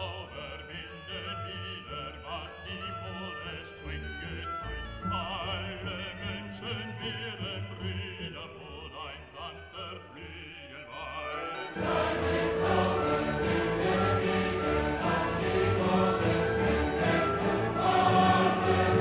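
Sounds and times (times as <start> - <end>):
choir and orchestra: 0.0 - 19.0
operatic singing: 0.0 - 19.0.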